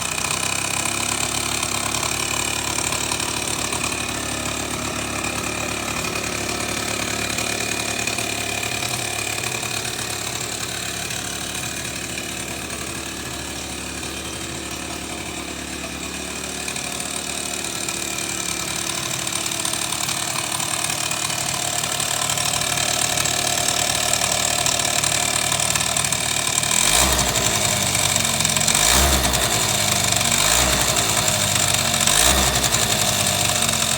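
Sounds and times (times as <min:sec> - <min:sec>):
scooter engine idling: 0:00.0 - 0:33.9.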